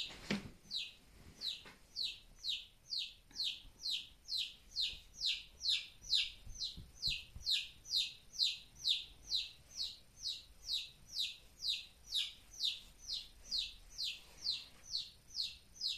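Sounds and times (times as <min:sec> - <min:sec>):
chick peeping loudly: 0:00.7 - 0:15.9.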